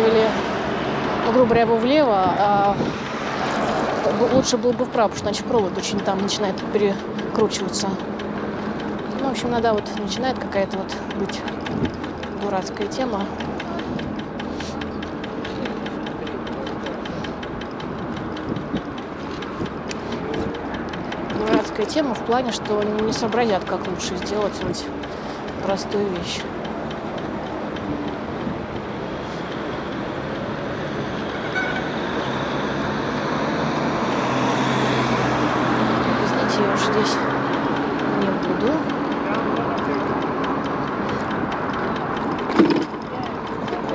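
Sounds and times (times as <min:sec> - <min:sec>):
motor vehicle hum: 0:00.0 - 0:43.9
scooter road noise: 0:00.0 - 0:43.9
street traffic: 0:00.0 - 0:43.9
rapid regular clicking knock: 0:02.9 - 0:31.5, 0:34.6 - 0:43.9.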